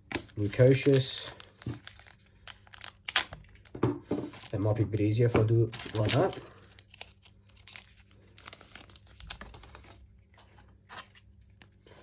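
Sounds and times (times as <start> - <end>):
plastic wrapper crinkling and tearing: 0.0 - 10.4.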